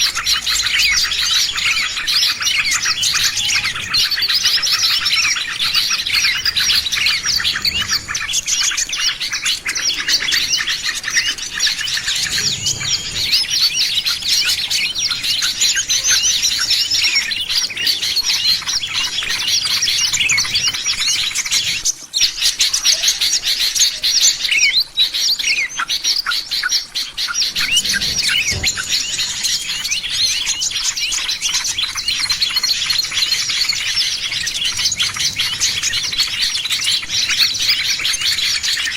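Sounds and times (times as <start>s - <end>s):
small birds chirping and twittering: 0.0s - 38.9s.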